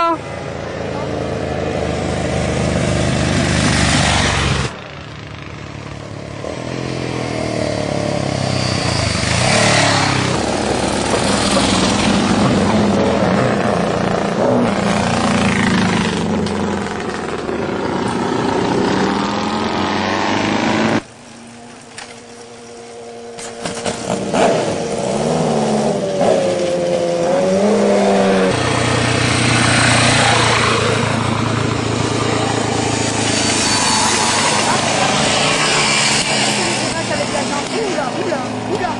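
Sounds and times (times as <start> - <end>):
racing motorcycles at high revs: 5.4 - 21.1, 22.0 - 38.9.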